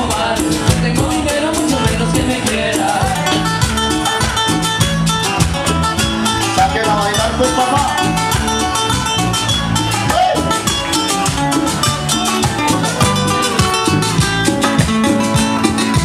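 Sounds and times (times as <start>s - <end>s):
live band playing latin dance music: 0.0s - 16.0s
percussion beat: 0.0s - 16.0s.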